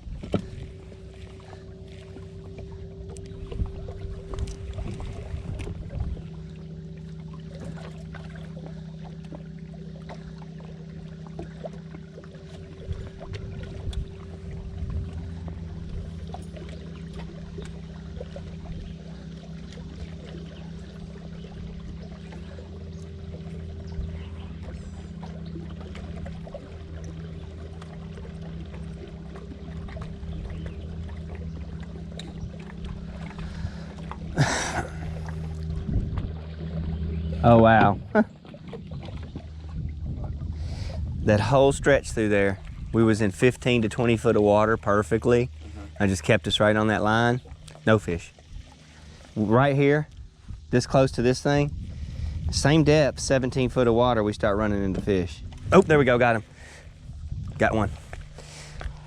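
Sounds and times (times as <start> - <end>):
boat motor humming: 0.0 - 59.0
water washing against hull: 0.0 - 59.0.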